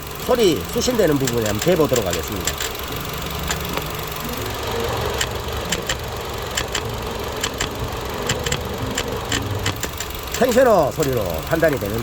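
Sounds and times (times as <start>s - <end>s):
car engine hum: 0.0s - 12.0s
sharp clicks: 0.7s - 4.5s, 5.2s - 12.0s.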